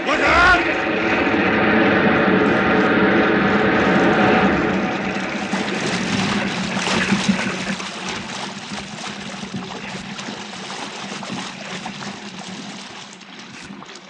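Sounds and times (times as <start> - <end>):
sea water splashing: 0.0 - 14.0
wave breaking over boat: 0.0 - 14.0.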